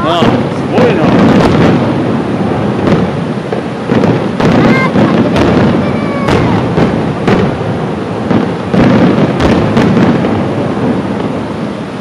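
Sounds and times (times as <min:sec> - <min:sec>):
low rumble of booms: 0:00.0 - 0:12.0
sharp firework bangs: 0:00.0 - 0:12.0.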